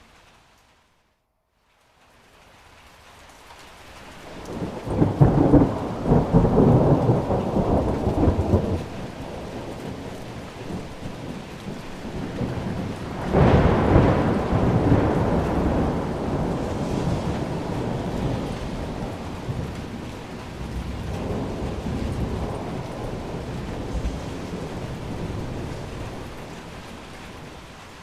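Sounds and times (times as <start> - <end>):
rain falling: 0.0 - 28.0
thunder rolling: 4.3 - 28.0.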